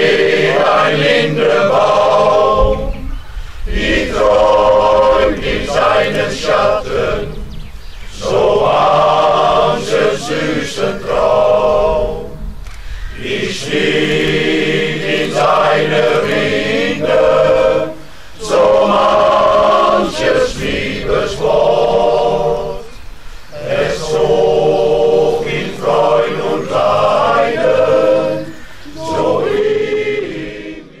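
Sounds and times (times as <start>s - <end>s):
male choir singing a cappella: 0.0s - 31.0s.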